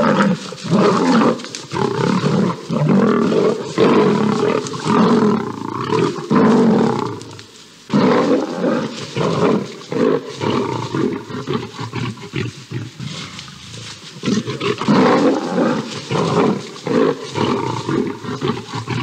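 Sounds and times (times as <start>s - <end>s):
lions roaring: 0.0s - 19.0s.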